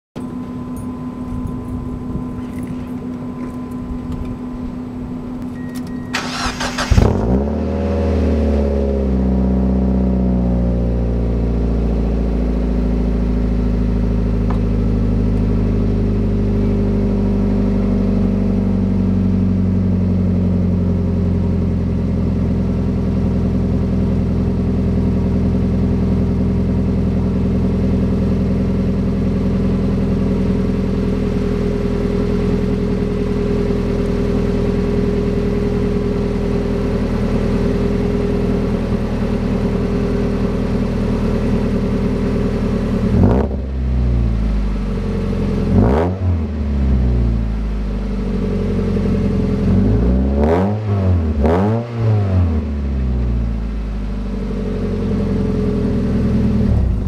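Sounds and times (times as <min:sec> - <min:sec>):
car engine starting and idling: 0:00.2 - 0:57.0.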